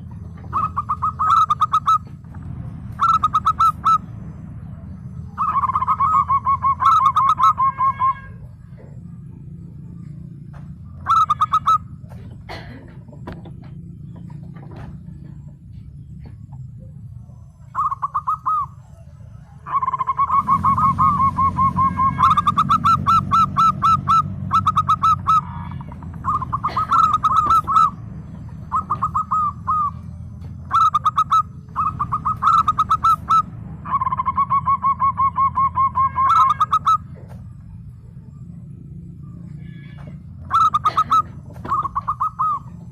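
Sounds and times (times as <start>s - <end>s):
dove cooing: 0.0s - 42.9s
low hum: 0.0s - 42.9s.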